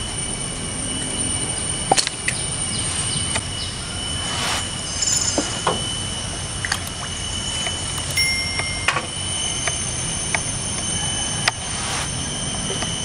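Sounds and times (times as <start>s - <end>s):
high-pitched whine: 0.0s - 13.0s
low rumble: 2.5s - 13.0s.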